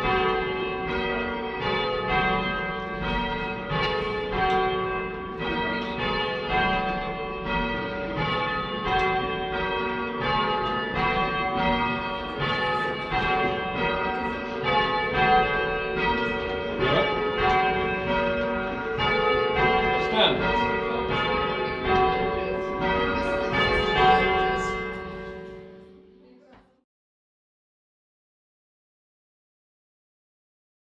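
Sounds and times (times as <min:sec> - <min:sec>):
church tower bells ringing: 0:00.0 - 0:26.4.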